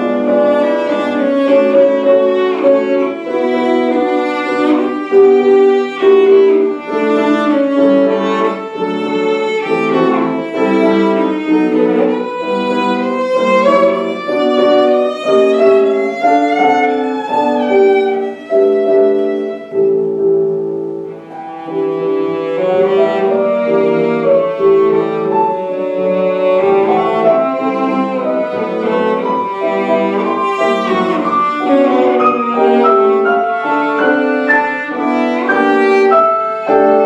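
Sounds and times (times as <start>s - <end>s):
violin playing classical piece: 0.0s - 37.0s.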